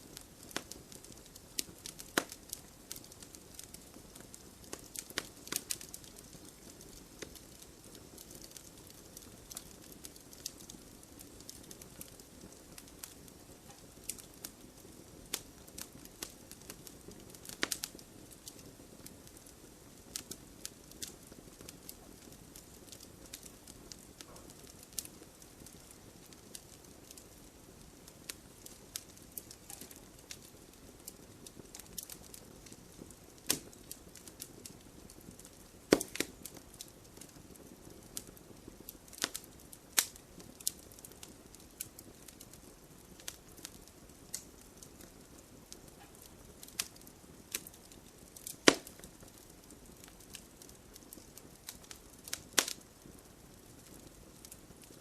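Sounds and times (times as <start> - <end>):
soft hiss of burning: 0.0 - 55.0
wood fire crackling and popping: 0.0 - 55.0.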